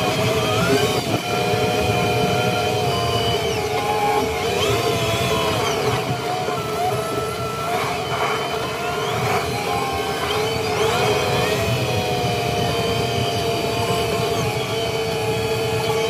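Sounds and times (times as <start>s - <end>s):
tractor engine whine: 0.0s - 16.0s.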